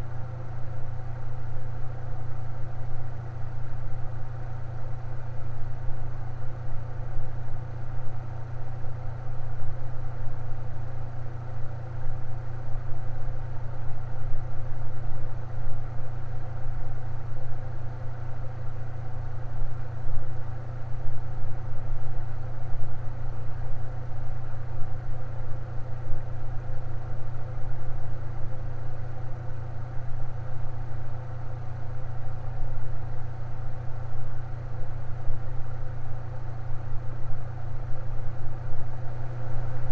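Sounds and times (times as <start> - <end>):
fan motor hum: 0.0 - 39.9.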